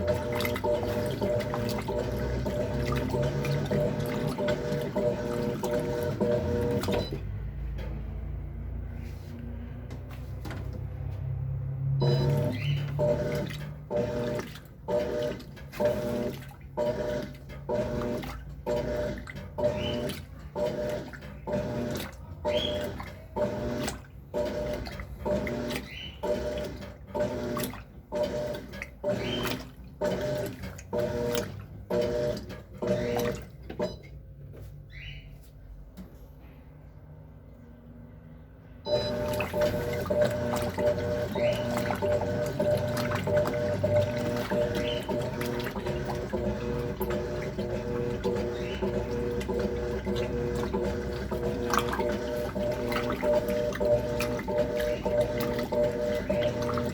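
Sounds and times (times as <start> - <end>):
agitator swishing water: 0.0 - 7.6, 12.0 - 34.1, 38.9 - 56.9
washing machine hum: 0.0 - 56.9.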